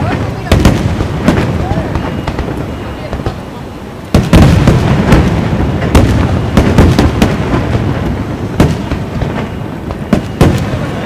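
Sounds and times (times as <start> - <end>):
fireworks bursting with sharp bangs: 0.0 - 11.0
low rumble of reports: 0.0 - 11.0.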